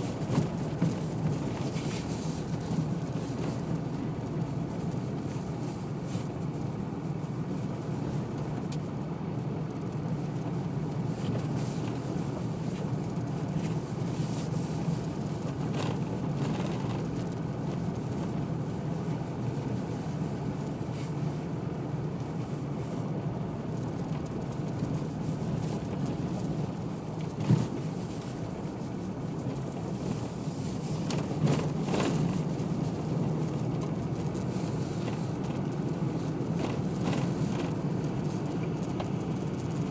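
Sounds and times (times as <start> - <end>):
car engine hum: 0.0 - 39.9
tyres on gravel road: 0.0 - 39.9.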